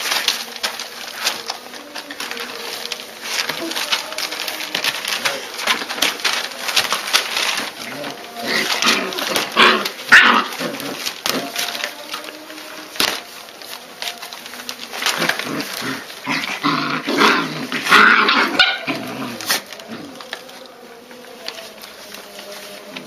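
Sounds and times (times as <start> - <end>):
puppies barking and growling: 0.0 - 23.0.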